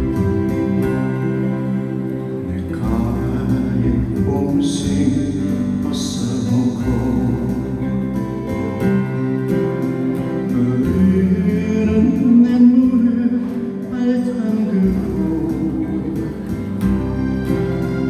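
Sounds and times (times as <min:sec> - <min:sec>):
quiet instrumental ballad music: 0:00.0 - 0:18.0.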